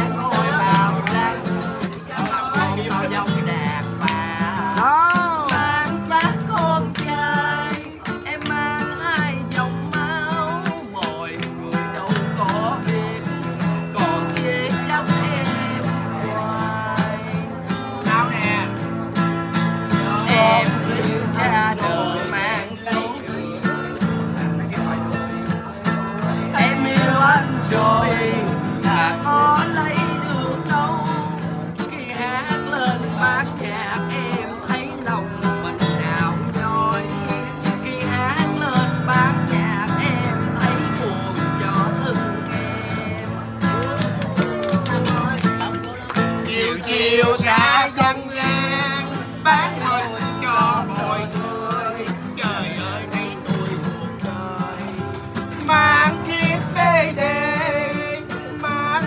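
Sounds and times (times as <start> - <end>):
group singing: 0.0 - 59.0
guitar accompaniment: 0.0 - 59.0.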